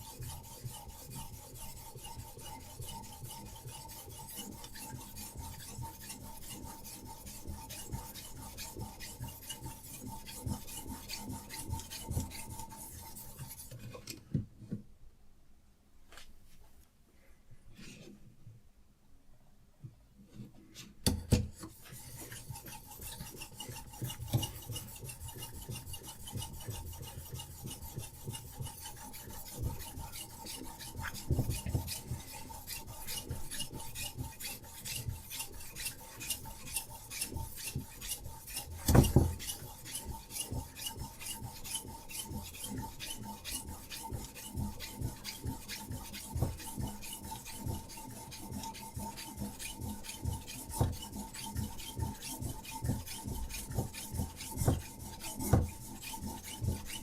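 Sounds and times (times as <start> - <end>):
sharpening stone rasping on knife: 0.0 - 13.8, 21.8 - 57.0.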